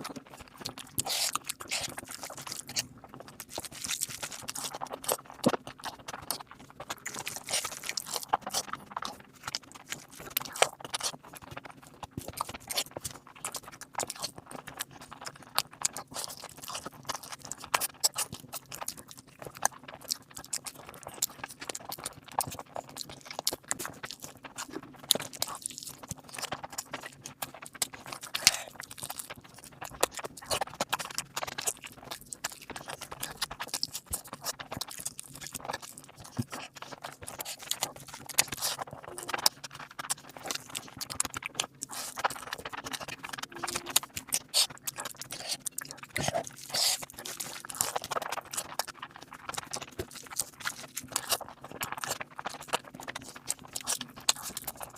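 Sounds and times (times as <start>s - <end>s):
soft food crunches: 0.0s - 54.9s
wet chewing and lip smacking: 0.0s - 54.9s.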